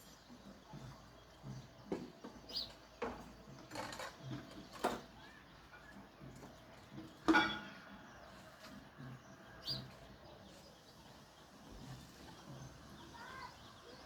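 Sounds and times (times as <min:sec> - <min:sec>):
sparrows chirping: 0:00.0 - 0:14.0.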